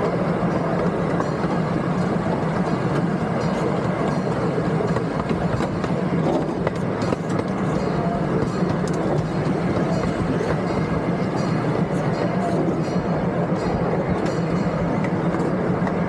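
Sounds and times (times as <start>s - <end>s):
train cars rumbling on track: 0.0s - 16.0s.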